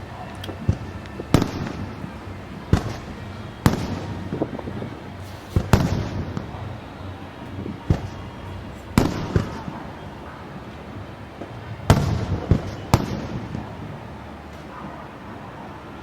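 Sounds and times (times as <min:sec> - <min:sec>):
fireworks bursting with rumbling echo: 0:00.0 - 0:14.1.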